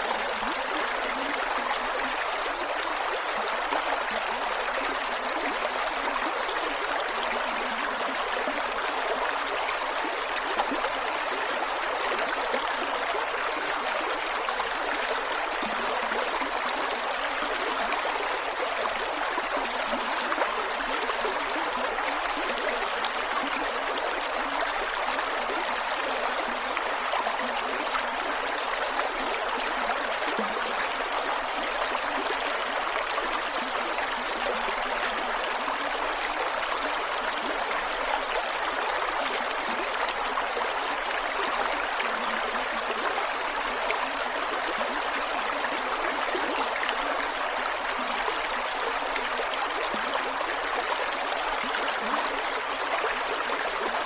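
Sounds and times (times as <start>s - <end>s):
creek water flowing over rocks: 0.0s - 54.0s.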